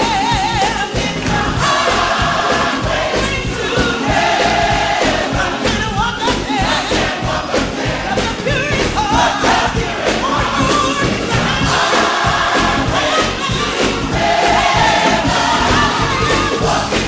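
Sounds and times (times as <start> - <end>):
band with steady beat: 0.0 - 17.0
choir singing: 0.0 - 17.0
congregation voices and shouts: 0.8 - 17.0.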